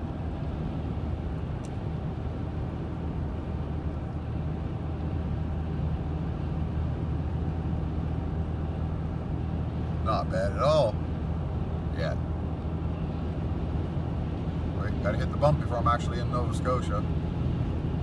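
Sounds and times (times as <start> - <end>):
engine and tyre rumble in cabin: 0.0 - 18.0.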